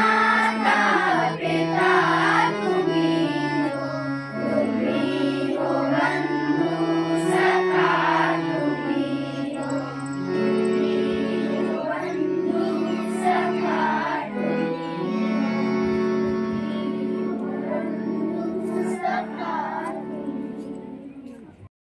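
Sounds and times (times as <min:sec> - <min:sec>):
children singing in unison: 0:00.0 - 0:21.1
harmonium playing sustained chords: 0:00.0 - 0:21.4.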